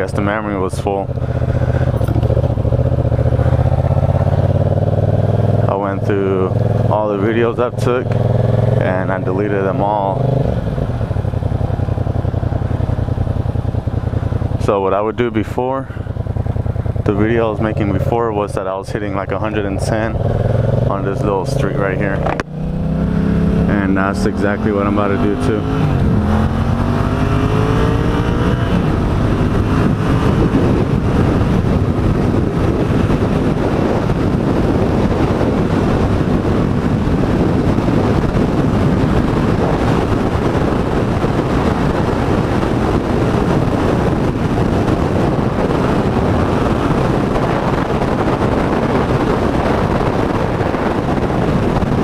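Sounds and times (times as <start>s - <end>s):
motorcycle engine accelerating: 0.0s - 52.0s
wind rushing on microphone: 0.0s - 52.0s.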